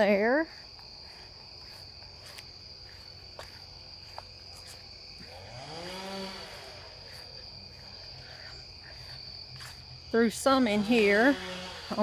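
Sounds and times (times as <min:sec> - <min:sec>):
crickets chirping drone: 0:00.0 - 0:12.0.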